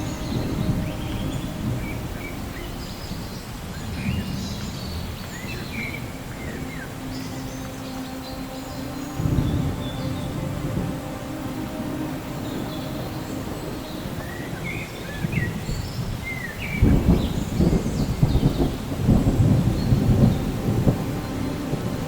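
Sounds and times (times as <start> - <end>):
rolling thunder: 0.0 - 7.6, 9.2 - 22.0
steady rain: 0.0 - 22.0.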